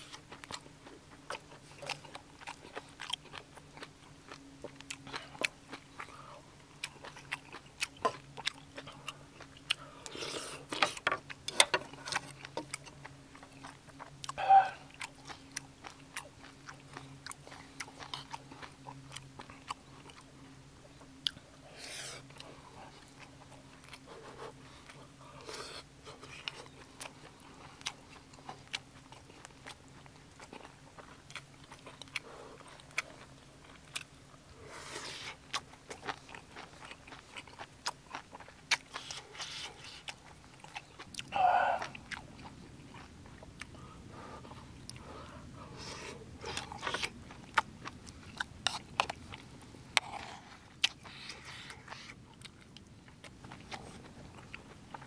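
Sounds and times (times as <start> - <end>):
wet chewing mouth sounds: 0.0 - 55.0.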